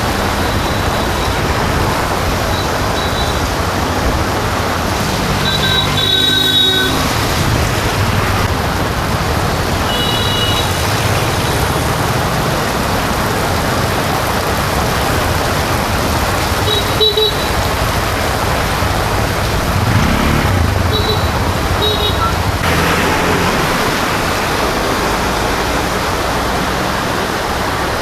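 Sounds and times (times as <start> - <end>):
rain: 0.0 - 28.0
road traffic: 0.0 - 28.0.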